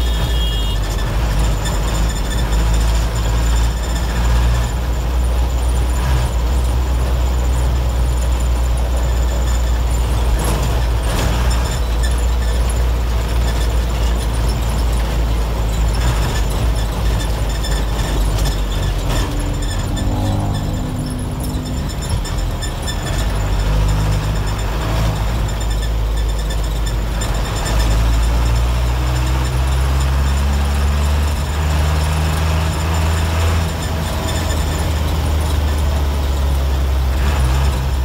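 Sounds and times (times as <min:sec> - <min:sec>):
bus diesel engine droning: 0:00.0 - 0:38.0
road noise: 0:00.0 - 0:38.0.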